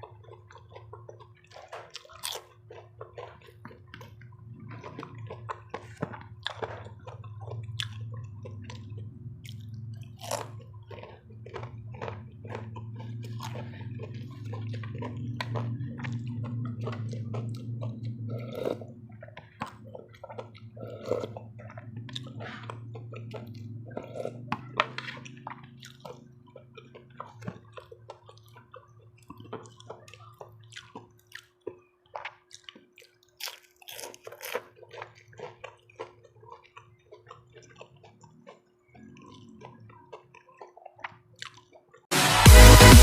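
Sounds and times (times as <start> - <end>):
chewing and wet mouth sounds: 0.0 - 43.0.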